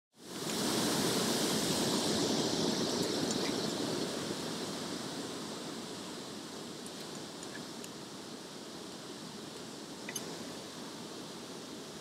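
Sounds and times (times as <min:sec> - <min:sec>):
rush of falling water: 0:00.2 - 0:12.0.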